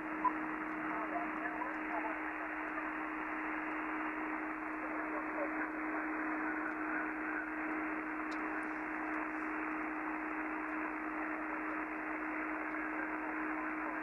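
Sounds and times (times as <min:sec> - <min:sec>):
radio band noise hiss: 0:00.0 - 0:14.0.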